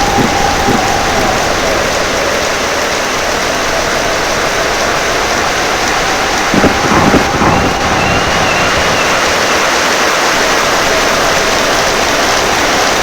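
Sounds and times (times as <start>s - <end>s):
heavy rain pouring: 0.0s - 13.0s
low rumble of thunder: 0.0s - 13.0s.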